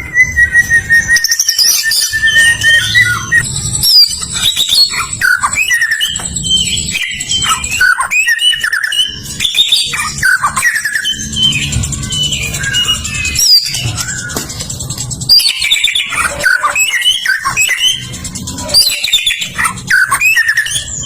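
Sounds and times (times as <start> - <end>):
bird singing whistled notes: 0.0 - 21.0.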